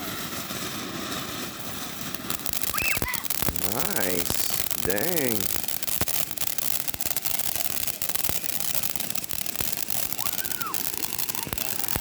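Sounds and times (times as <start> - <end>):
firework crackles and pops: 0.0 - 12.0
firework fountain hissing: 0.0 - 12.0.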